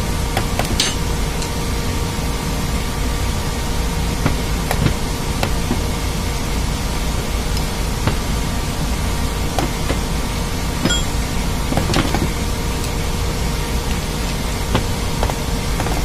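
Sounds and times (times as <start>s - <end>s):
faint hum: 0.0s - 16.0s
machinery drone: 0.0s - 16.0s.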